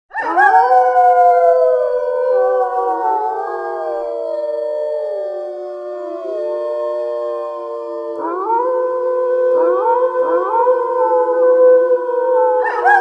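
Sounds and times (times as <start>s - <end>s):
wolves howling in chorus: 0.1s - 13.0s.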